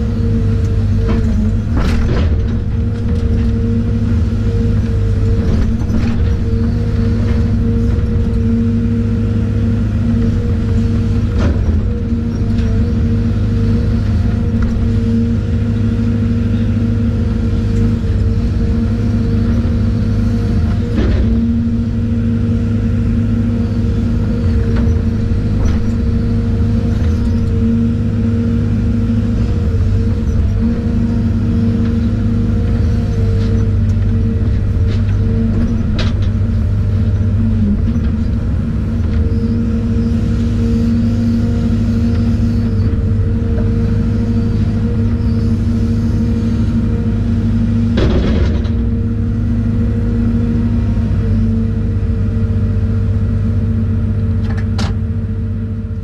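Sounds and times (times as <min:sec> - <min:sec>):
excavator engine humming: 0:00.0 - 0:56.0.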